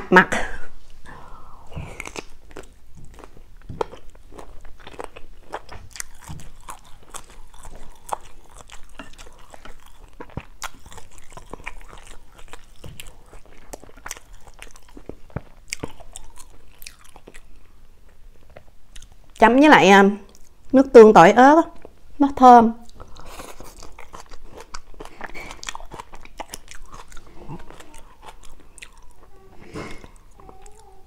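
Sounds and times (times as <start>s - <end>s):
chewing and mouth clicks: 1.8s - 19.4s, 20.3s - 20.6s, 22.8s - 30.8s.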